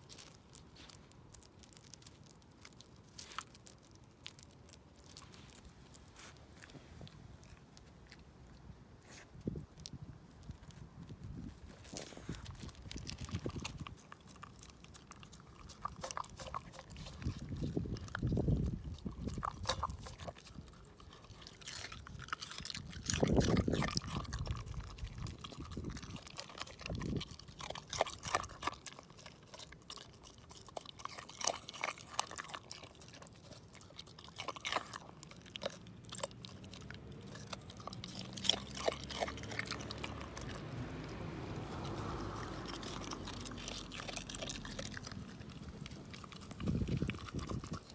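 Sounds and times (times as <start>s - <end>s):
dog chewing crunching bones: 0.0s - 47.9s.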